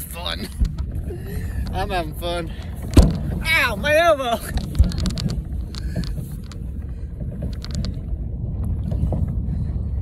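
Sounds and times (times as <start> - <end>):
wind on microphone: 0.0 - 10.0
knocks and rattles: 0.4 - 9.3.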